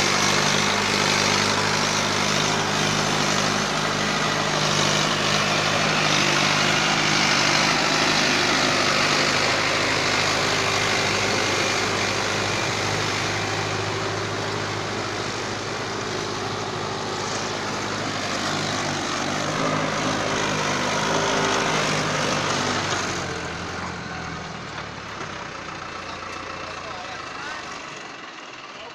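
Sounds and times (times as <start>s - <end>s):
loud rushing noise: 0.0s - 23.3s
tractor diesel engine running: 0.0s - 28.9s.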